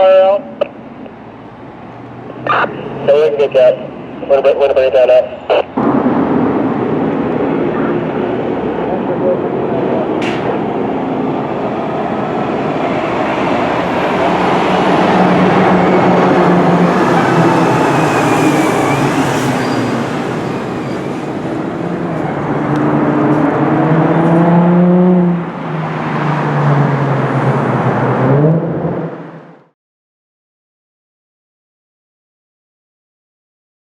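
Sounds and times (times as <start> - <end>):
fire engine diesel accelerating: 0.0 - 29.7.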